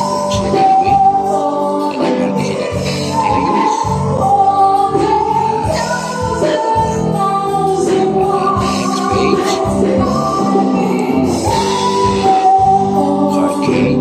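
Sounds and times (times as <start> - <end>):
singing with instrumental music: 0.0 - 14.0.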